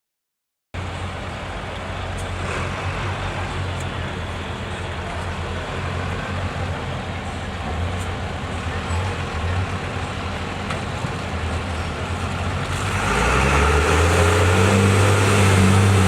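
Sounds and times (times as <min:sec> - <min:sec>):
truck diesel engine droning: 0:00.8 - 0:16.0.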